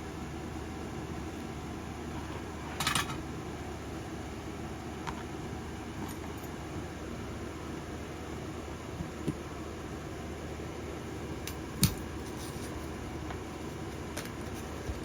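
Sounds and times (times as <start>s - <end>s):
fan-like whirring hiss: 0.0s - 15.0s.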